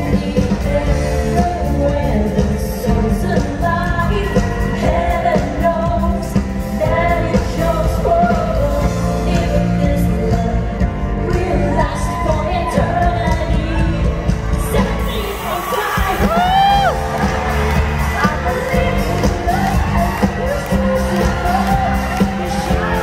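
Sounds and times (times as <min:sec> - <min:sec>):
live pop-rock band: 0:00.0 - 0:23.0
person singing: 0:00.0 - 0:23.0.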